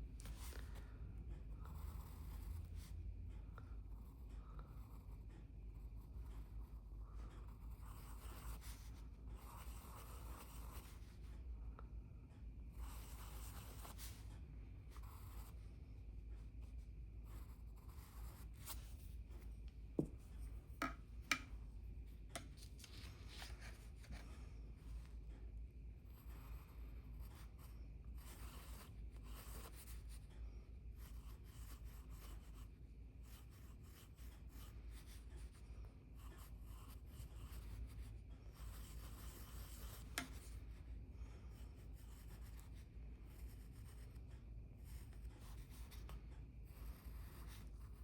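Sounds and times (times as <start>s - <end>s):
steady low hum: 0.0s - 48.0s
pencil scratching on paper: 1.6s - 3.1s, 3.9s - 11.5s, 12.7s - 15.9s, 16.6s - 21.5s, 26.0s - 48.0s.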